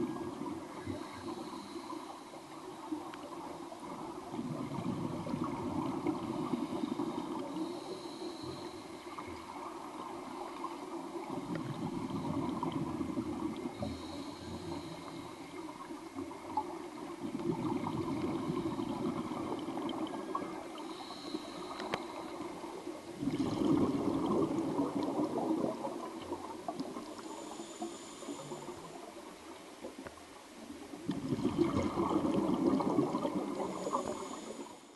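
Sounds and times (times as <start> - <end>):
regulator air bubbling underwater: 0.0 - 30.0, 30.9 - 34.8
faint hissing: 0.0 - 34.9.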